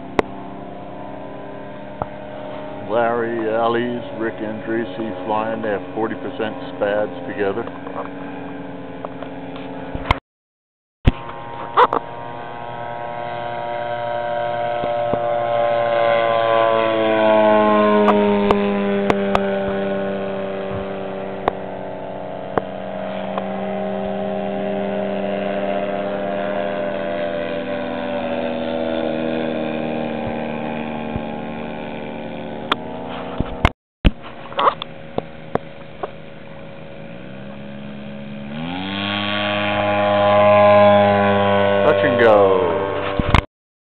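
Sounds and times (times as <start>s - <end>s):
model plane engine droning: 0.0s - 10.2s, 11.1s - 43.5s.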